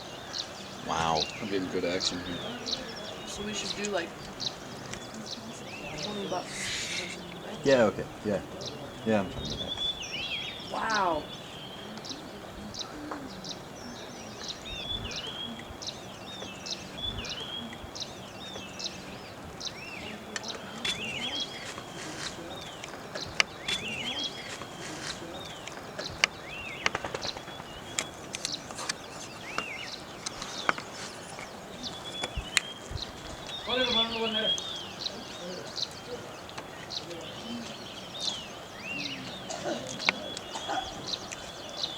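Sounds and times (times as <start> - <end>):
low background noise: 0.0 - 41.9
small birds chirping: 0.0 - 41.9.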